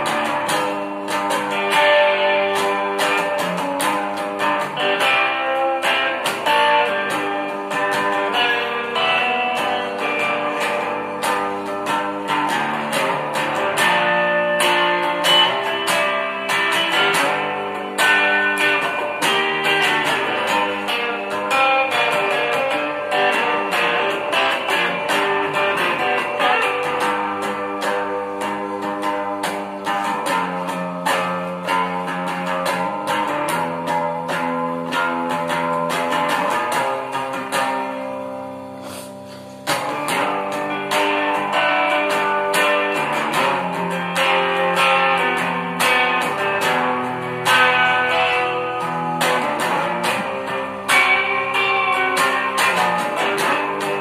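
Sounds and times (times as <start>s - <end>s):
guitar playing: 0.0s - 54.0s.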